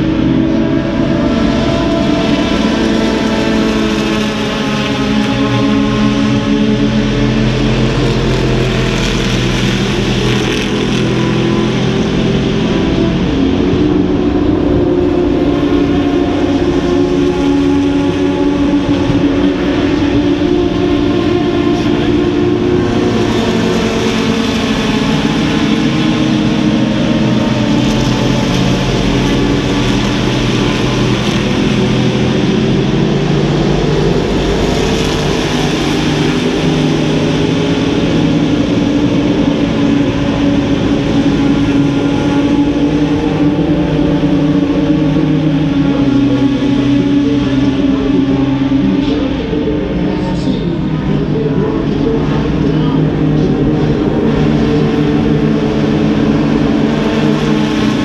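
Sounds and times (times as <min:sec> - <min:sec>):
race car engines droning: 0:00.0 - 0:58.0.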